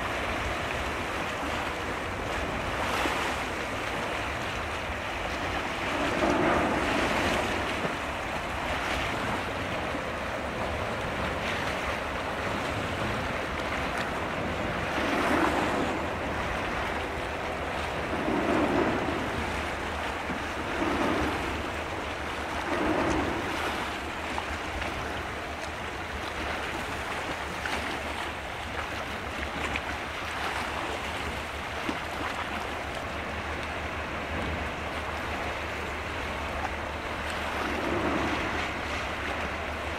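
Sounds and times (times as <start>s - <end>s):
sea water washing on shore: 0.0s - 39.9s
steady low rumble: 3.4s - 30.2s, 32.4s - 39.9s.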